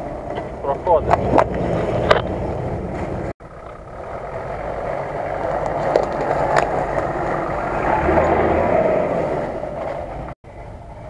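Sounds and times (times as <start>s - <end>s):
suv engine running: 0.0s - 11.0s.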